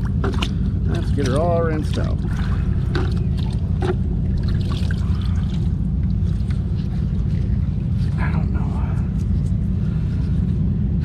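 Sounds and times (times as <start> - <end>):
water trickling and splashing: 0.0 - 9.2
steady low rumble: 0.0 - 11.0.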